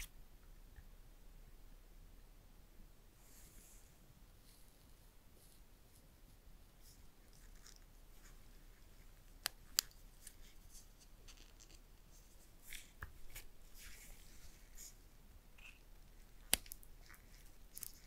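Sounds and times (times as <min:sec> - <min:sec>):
rustling of gloves: 0:03.2 - 0:18.0.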